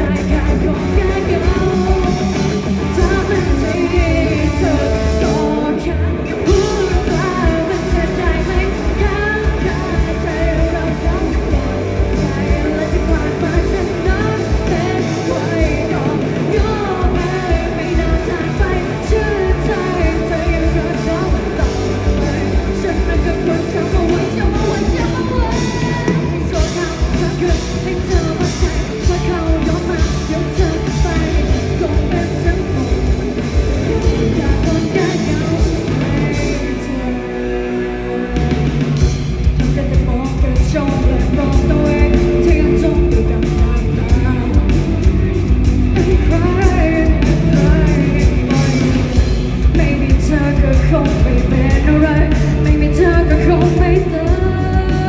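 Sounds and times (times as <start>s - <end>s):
lead singer singing: 0.0s - 55.0s
rock band playing live: 0.0s - 55.0s.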